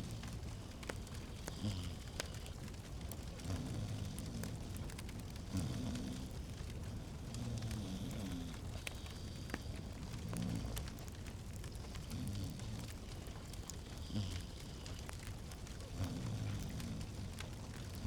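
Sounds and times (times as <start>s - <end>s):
log fire crackling: 0.0s - 18.0s.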